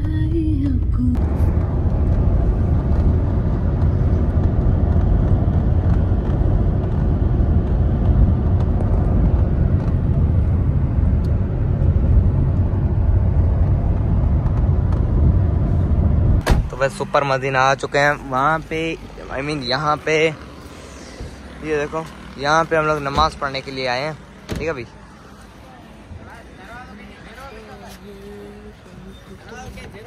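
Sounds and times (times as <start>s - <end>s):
car interior engine and road noise: 0.0s - 30.0s.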